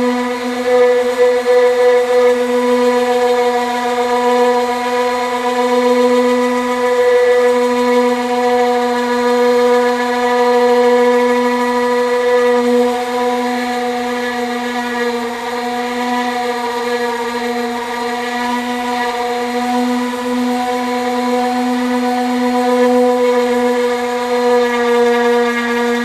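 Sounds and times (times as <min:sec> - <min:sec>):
power sander whining: 0:00.0 - 0:26.0.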